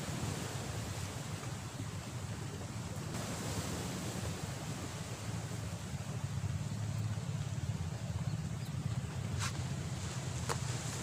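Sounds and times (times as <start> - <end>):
small waves lapping: 0.0 - 11.0
wind buffeting microphone: 0.0 - 11.0.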